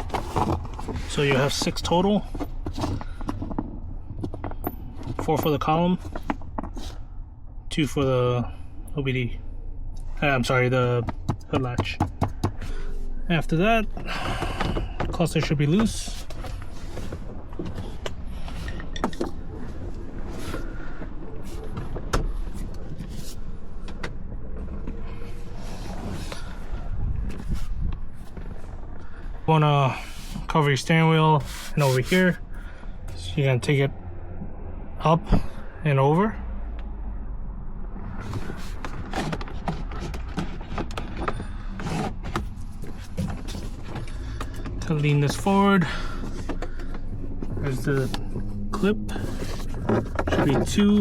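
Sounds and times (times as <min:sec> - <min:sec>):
steady low hum: 0:00.0 - 0:51.0
steady low rumble: 0:00.0 - 0:51.0.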